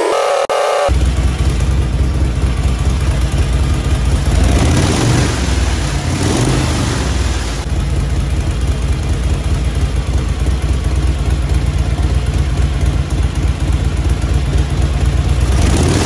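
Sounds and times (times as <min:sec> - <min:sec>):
motorcycle engine running: 0:00.9 - 0:16.0.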